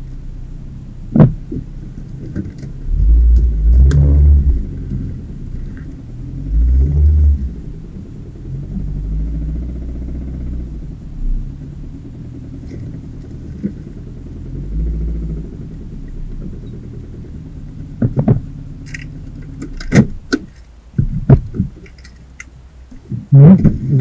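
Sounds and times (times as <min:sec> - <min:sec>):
engine running with heavy knock: 0:00.0 - 0:24.0.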